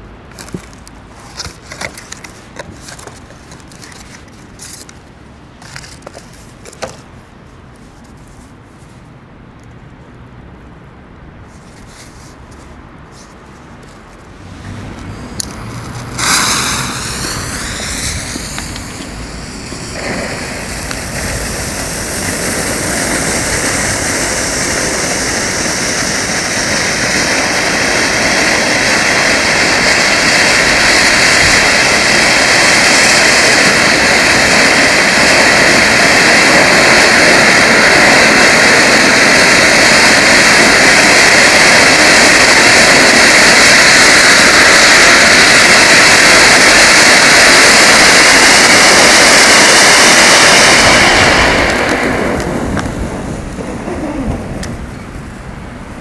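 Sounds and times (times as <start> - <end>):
firework fountain hissing: 0.0 - 8.9, 11.5 - 56.0.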